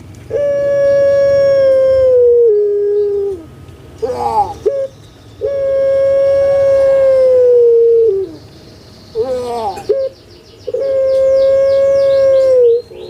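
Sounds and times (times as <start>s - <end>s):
dove cooing: 0.3s - 8.5s, 9.1s - 13.0s.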